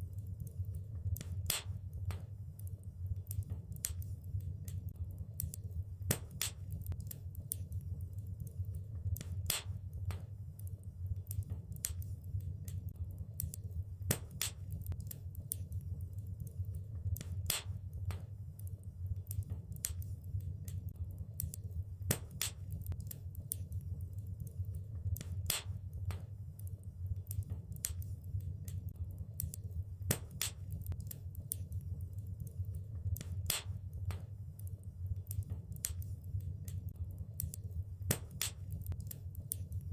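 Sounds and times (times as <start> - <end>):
fire crackling and popping: 0.0 - 39.9
low rumble of burning fire: 0.0 - 39.9.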